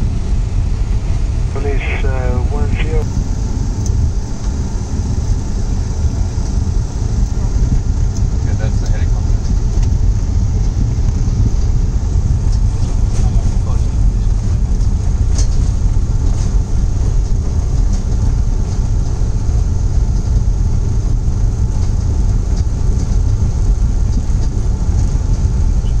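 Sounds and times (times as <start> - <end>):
jet cockpit engine rumble: 0.0 - 26.0.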